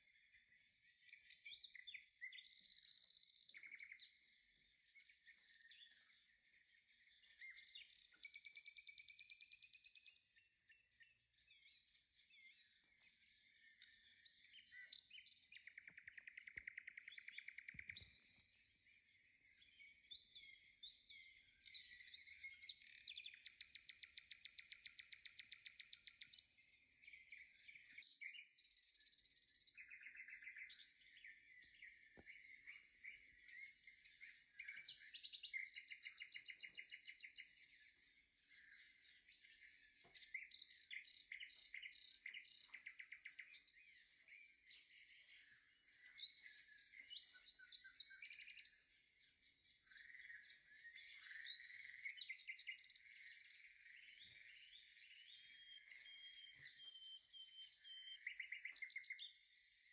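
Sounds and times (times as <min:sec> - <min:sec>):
faint birdsong with trills: 0:00.0 - 0:59.9.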